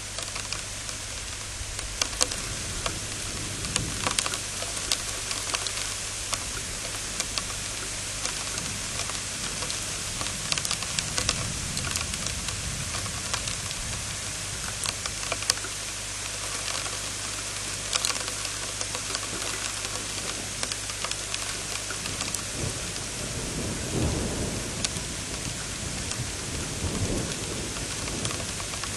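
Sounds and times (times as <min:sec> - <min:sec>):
heavy rain hissing: 0:00.0 - 0:28.9
raindrops tapping microphone: 0:00.0 - 0:28.9.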